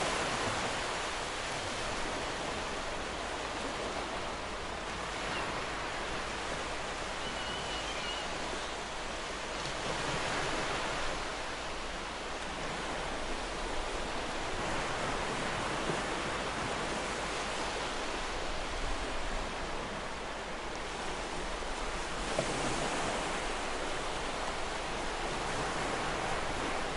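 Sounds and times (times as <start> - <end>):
waves breaking on beach: 0.0 - 26.9.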